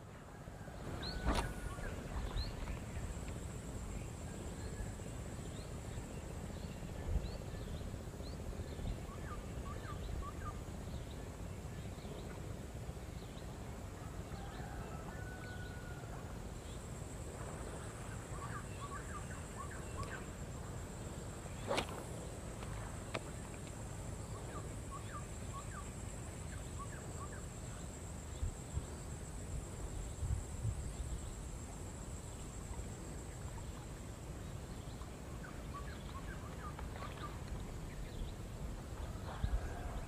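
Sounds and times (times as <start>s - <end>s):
wind rumble on microphone: 0.0s - 23.5s, 27.6s - 40.0s.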